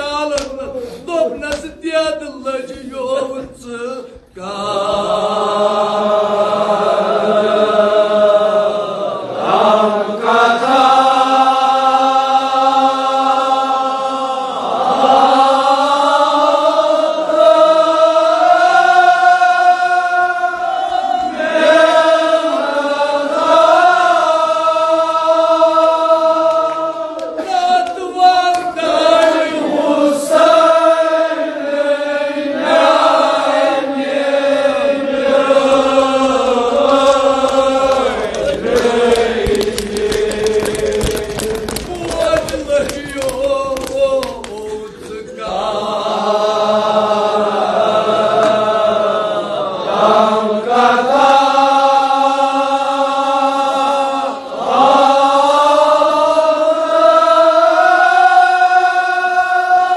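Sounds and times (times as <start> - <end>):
men chanting in long notes: 0.0 - 59.9.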